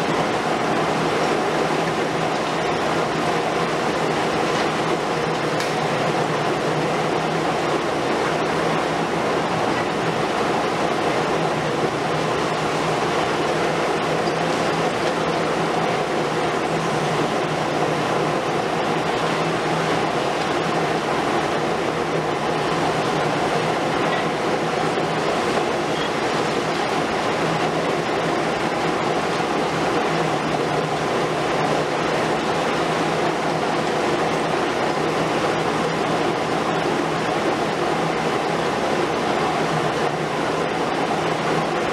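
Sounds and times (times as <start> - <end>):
excavator diesel engines rumbling: 0.0 - 41.9.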